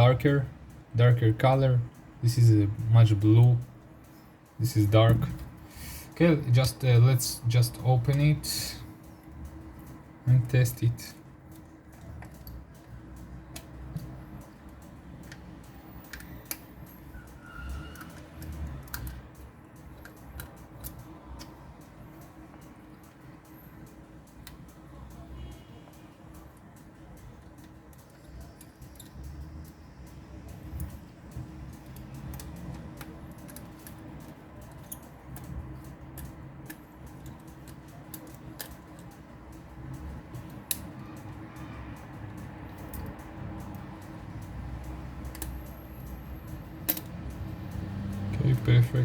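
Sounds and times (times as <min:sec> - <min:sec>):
light clicks and taps: 0:00.0 - 0:49.0.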